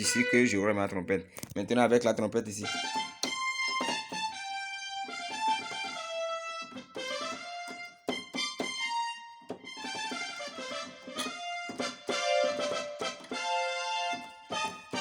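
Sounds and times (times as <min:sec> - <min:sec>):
keyboard trumpet melody: 0:00.0 - 0:00.9, 0:02.6 - 0:15.0.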